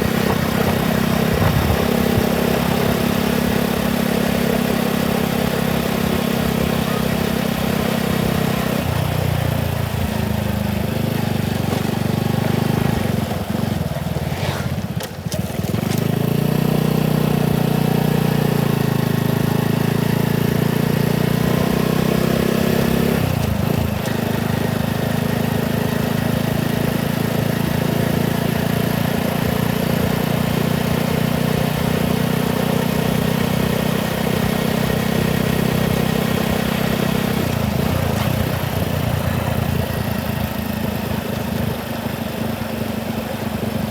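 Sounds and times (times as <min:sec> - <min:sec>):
motorcycle engine running: 0:00.0 - 0:43.9
road and wind noise: 0:00.0 - 0:43.9.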